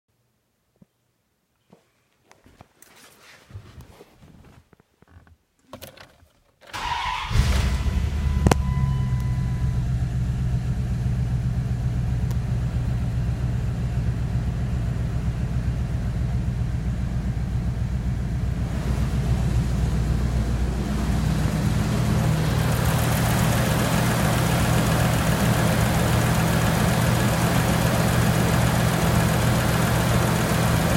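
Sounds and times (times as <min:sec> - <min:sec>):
engine cranking and idling: 0:05.6 - 0:30.9.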